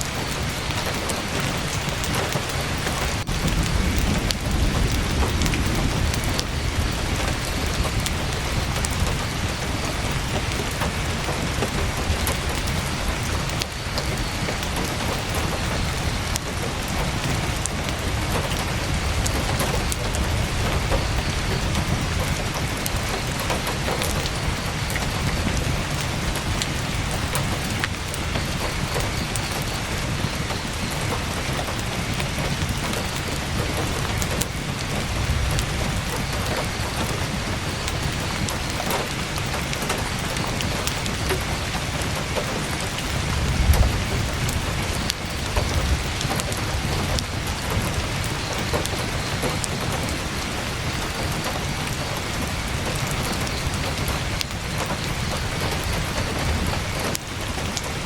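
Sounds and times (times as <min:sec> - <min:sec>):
heavy rain on a tent: 0:00.0 - 0:58.0.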